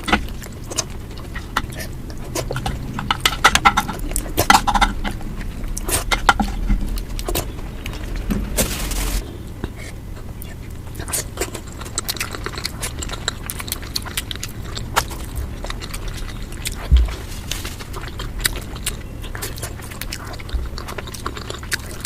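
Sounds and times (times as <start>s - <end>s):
sped-up eating crunches and clicks: 0.0s - 22.0s.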